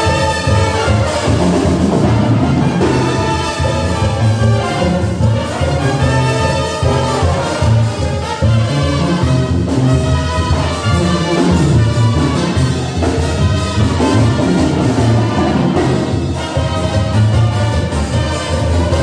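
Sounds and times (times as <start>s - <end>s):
drums: 0.0s - 19.0s
trumpets playing a tune: 0.0s - 19.0s.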